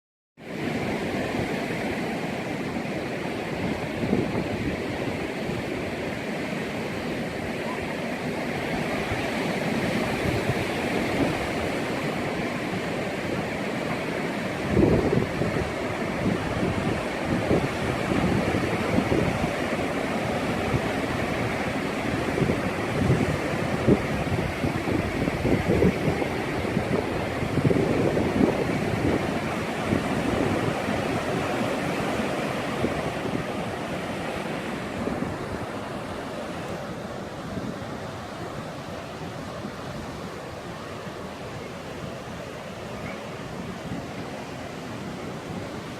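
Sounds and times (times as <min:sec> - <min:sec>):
ocean surf washing on shore: 0:00.4 - 0:45.9.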